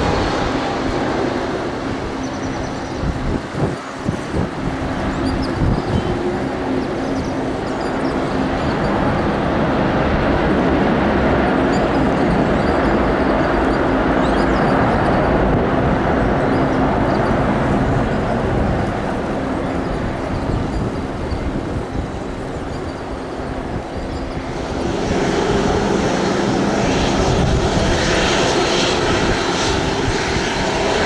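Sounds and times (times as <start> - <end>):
jet aircraft engine noise: 0.0 - 31.0.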